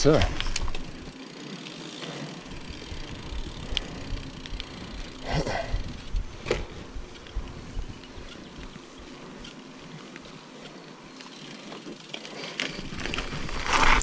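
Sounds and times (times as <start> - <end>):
bike clicks and rattles: 0.0 - 14.0
bike tyres rolling on asphalt: 0.0 - 14.0.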